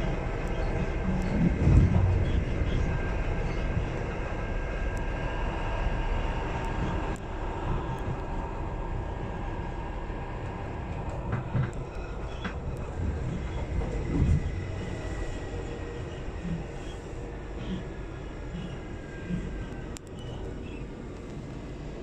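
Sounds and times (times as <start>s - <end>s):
faint whining tones: 0.0s - 22.0s
train wheels rumbling on rails: 0.0s - 22.0s.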